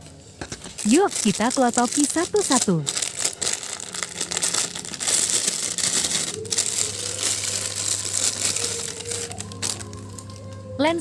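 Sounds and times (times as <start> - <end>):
plastic bag crinkling: 0.4 - 10.7.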